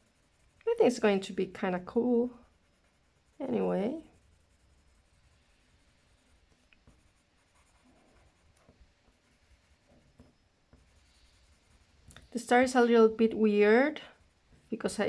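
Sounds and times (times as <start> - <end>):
pencil scratching on card: 0.0 - 12.5.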